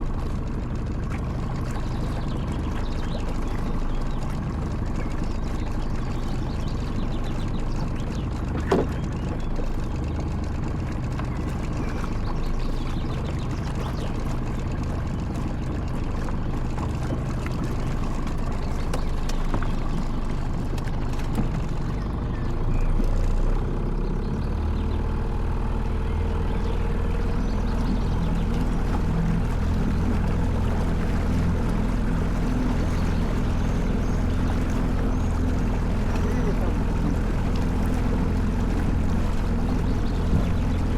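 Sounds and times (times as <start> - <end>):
motorboat engine running: 0.0 - 40.9.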